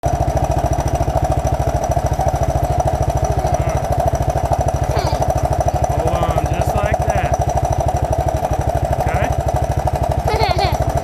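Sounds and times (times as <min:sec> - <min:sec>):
motorcycle engine thumping steadily: 0:00.0 - 0:11.0.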